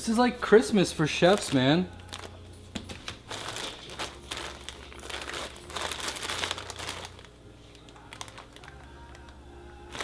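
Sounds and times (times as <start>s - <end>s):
packets rustling and crinkling: 0.1s - 10.0s.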